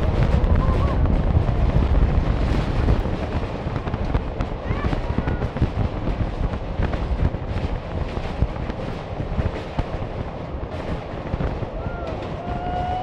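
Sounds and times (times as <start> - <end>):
train rumbling over bridge: 0.0 - 13.0
wind buffeting microphone: 0.0 - 13.0.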